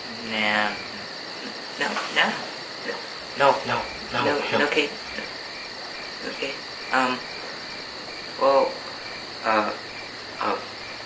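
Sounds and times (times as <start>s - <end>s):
crickets chirping: 0.0s - 11.0s
steady high buzz: 0.0s - 11.0s.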